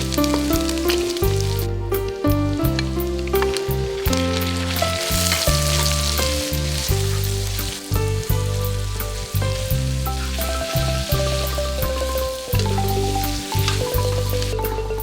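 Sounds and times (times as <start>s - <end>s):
background music: 0.0s - 15.0s
noodles sizzling in a hot pan: 0.0s - 15.0s.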